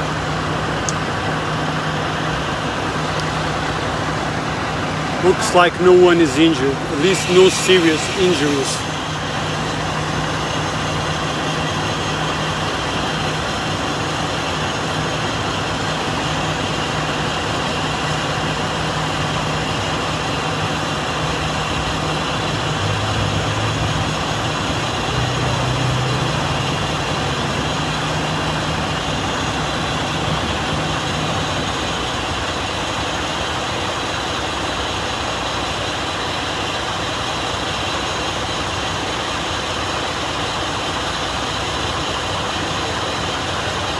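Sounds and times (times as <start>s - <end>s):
heavy vehicle engine idling: 0.0s - 43.9s
street noise: 0.0s - 43.9s.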